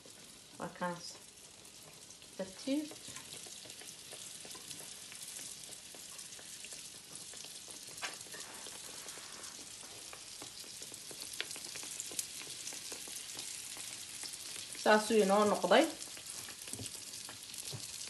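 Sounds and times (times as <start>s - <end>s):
food deep-frying in hot oil: 0.0s - 18.0s.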